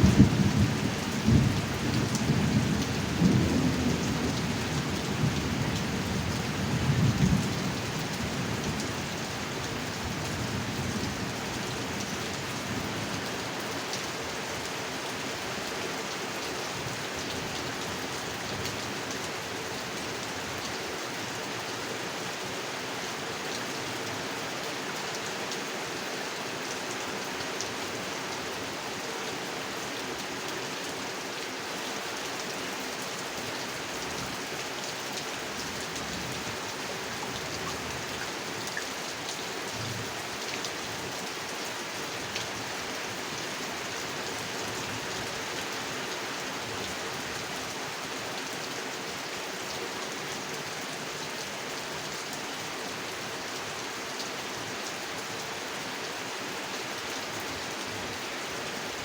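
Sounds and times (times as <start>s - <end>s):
steady rain on a pond: 0.0s - 59.0s.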